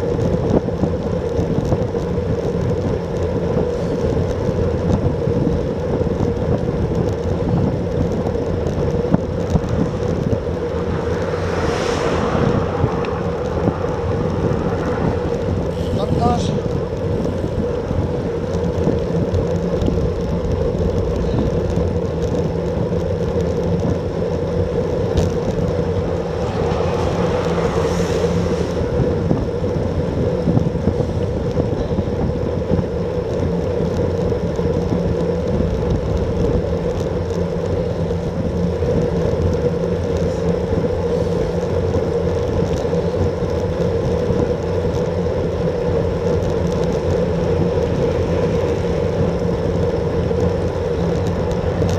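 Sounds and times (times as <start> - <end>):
bike tyre road noise: 0.0 - 51.9
wind rushing over microphone: 0.0 - 51.9.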